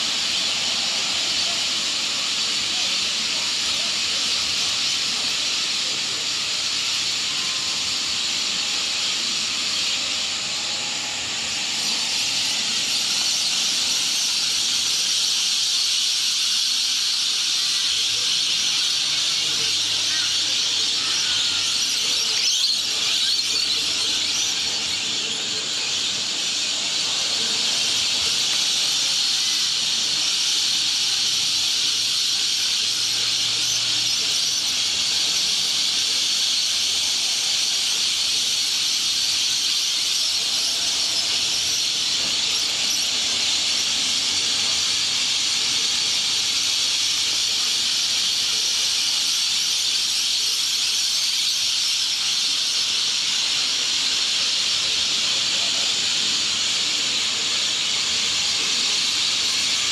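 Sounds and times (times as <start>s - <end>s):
flock of birds calling: 0.0s - 59.9s.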